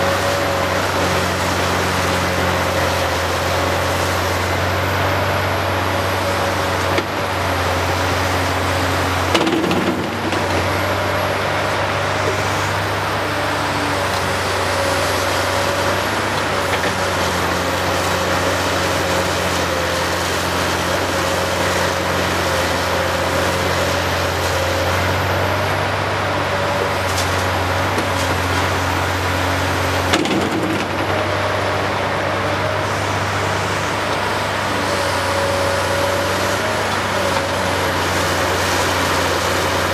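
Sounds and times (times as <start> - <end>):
excavator diesel drone with whine: 0.0 - 39.9.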